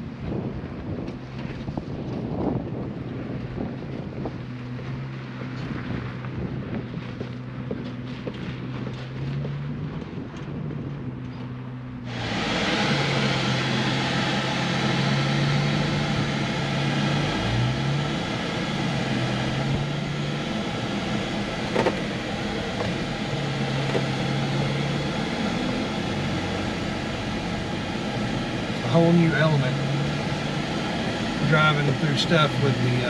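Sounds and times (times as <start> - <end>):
engine droning: 0.0 - 33.0
road and cabin noise: 0.0 - 33.0.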